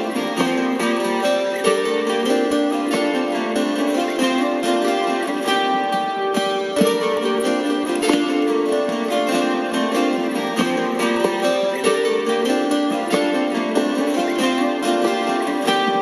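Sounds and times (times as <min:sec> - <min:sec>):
acoustic guitar: 0:00.0 - 0:16.0
looped guitar parts: 0:00.0 - 0:16.0.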